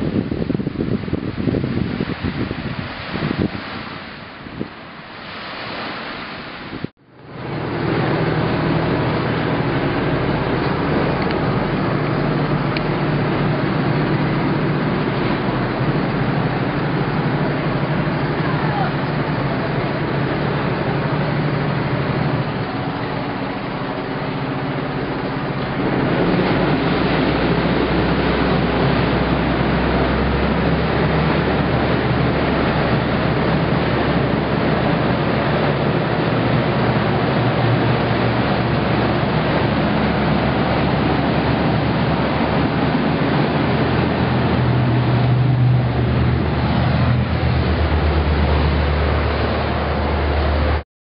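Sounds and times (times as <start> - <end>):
ferry engine hum: 0.0 - 50.8
propellers churning water: 0.0 - 50.8.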